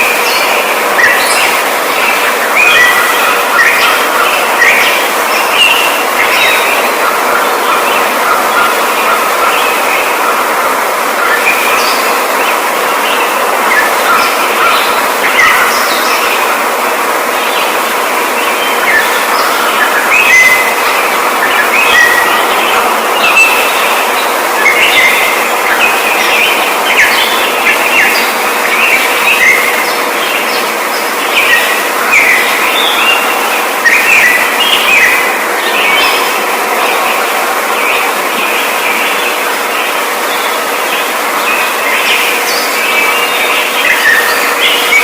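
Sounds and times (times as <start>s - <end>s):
birds chirping and chattering: 0.0s - 45.0s
steady dense hiss: 0.0s - 45.0s.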